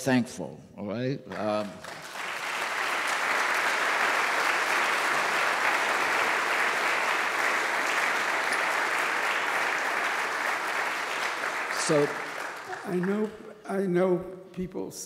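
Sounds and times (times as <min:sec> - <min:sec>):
audience applauding: 0:01.3 - 0:13.8.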